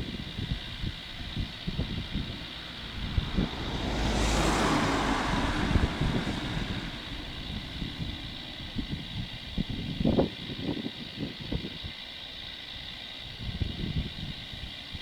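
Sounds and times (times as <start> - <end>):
gusty wind on microphone: 0.0 - 12.0, 13.3 - 15.0
turboprop engines whining: 0.0 - 15.0.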